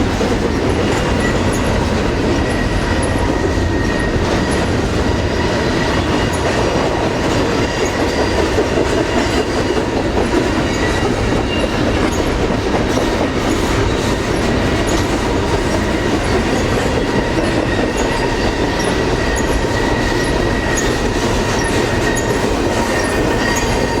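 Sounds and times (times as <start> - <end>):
train cars rumbling past: 0.0 - 24.0.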